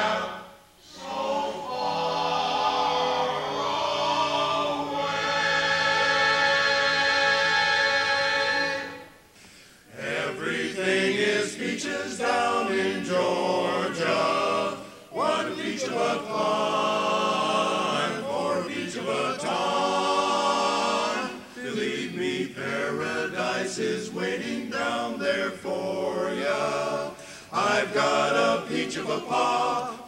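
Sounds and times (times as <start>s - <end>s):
men's chorus singing a cappella: 0.0s - 9.1s, 9.9s - 30.0s.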